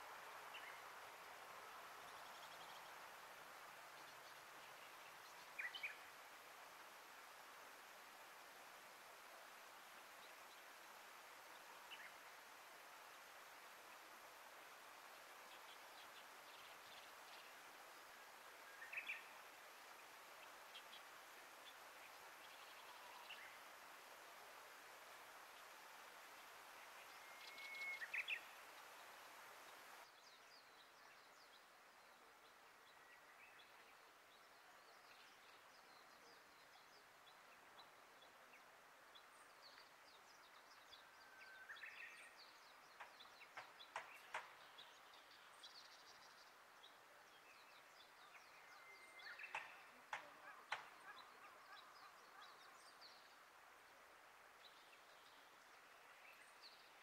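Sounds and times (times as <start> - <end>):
small birds chirping: 0.4 - 8.2, 8.8 - 57.0.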